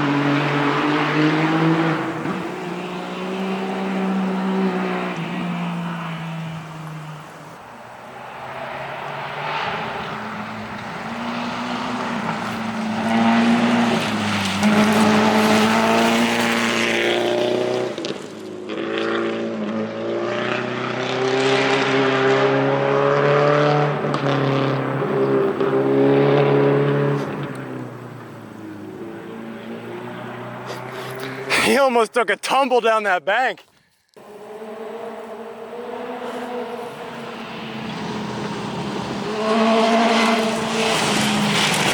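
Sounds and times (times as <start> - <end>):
rally car engine at high revs: 0.0 - 7.4, 8.5 - 31.6, 34.2 - 41.9.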